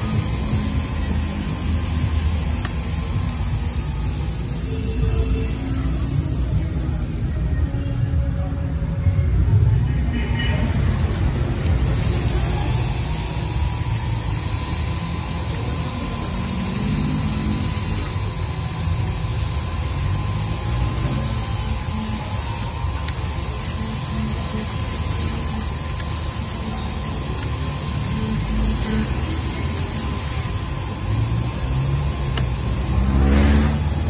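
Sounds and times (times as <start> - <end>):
engraving machine whirring: 0.0 - 7.7, 11.5 - 34.0.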